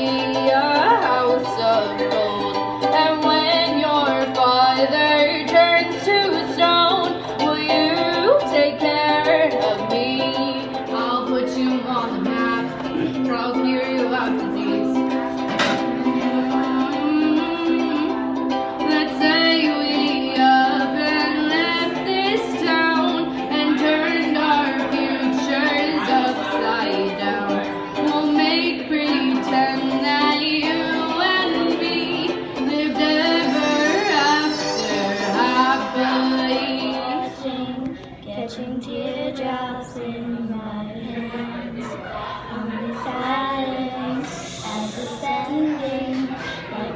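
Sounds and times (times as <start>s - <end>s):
ukulele strumming: 0.0s - 40.1s
girl singing: 0.0s - 46.9s.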